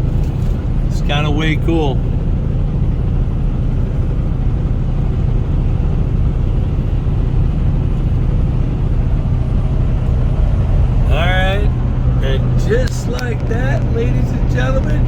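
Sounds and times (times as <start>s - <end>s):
road and wind noise: 0.0s - 15.0s
vehicle engine drone: 0.0s - 15.0s.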